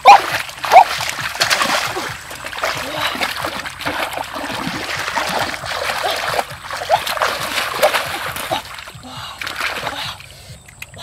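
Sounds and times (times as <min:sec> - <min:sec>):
hands splashing in muddy water: 0:00.0 - 0:10.9.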